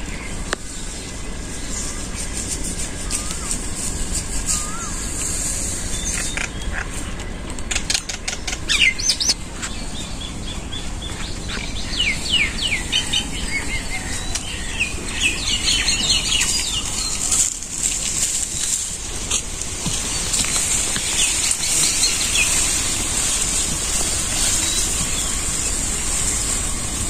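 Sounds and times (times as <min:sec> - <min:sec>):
small birds chirping: 0:00.0 - 0:27.0
steady high hiss: 0:00.0 - 0:27.0.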